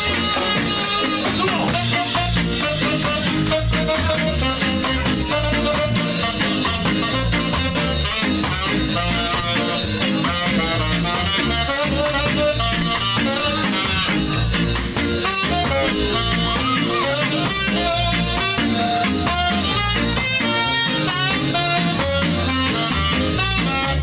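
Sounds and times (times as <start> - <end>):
bass: 0.0 - 24.0
drum kit: 0.0 - 24.0
offbeat electric guitar: 0.0 - 24.0
saxophone melody: 0.0 - 24.0.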